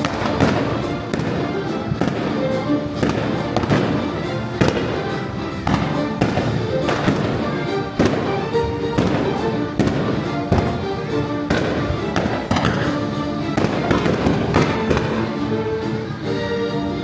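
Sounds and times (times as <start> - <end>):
fireworks bursting: 0.0 - 16.4
music soundtrack: 0.0 - 17.0.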